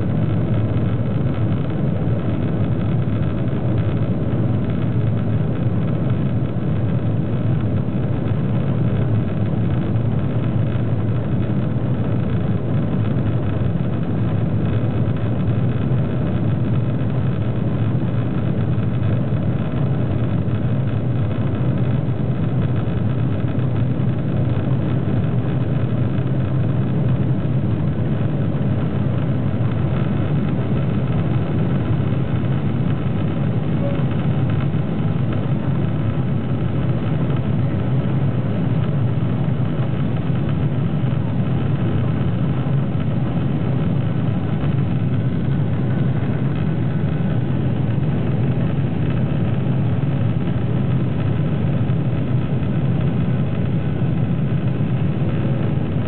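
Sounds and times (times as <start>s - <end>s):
jet engines roaring at takeoff: 0.0s - 56.0s.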